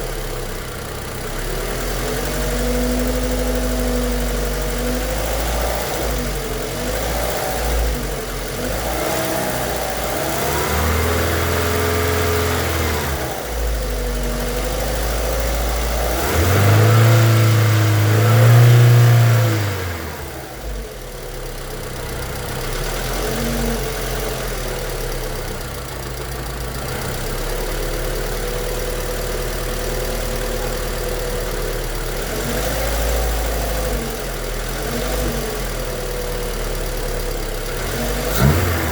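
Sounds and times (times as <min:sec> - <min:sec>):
car engine idling and revving: 0:00.0 - 0:38.9
engine knocking: 0:00.0 - 0:38.9.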